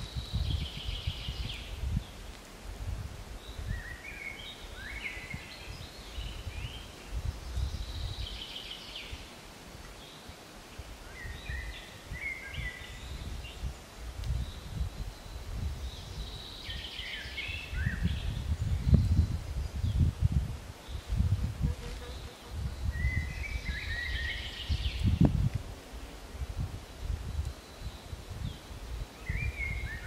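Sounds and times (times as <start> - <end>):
songbirds singing: 0.0 - 2.3, 3.4 - 25.6, 26.3 - 30.0
wind rumble on microphone: 0.0 - 10.0, 10.7 - 30.0.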